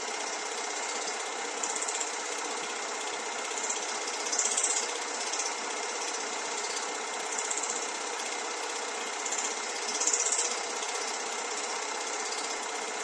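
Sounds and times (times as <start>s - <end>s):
film projector whirring and clattering: 0.0s - 13.0s.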